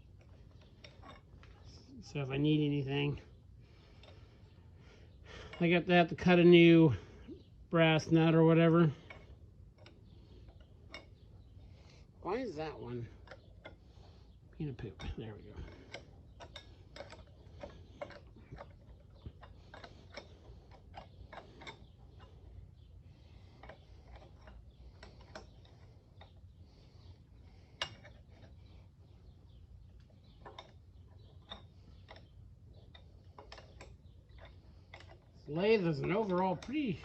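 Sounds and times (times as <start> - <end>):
faint metallic clicks and ticks: 0.0 - 37.0.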